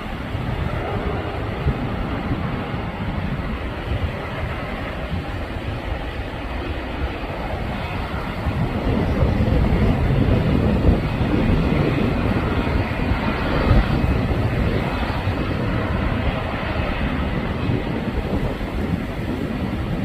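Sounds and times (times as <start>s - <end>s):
jet airliner taking off: 0.0s - 20.0s.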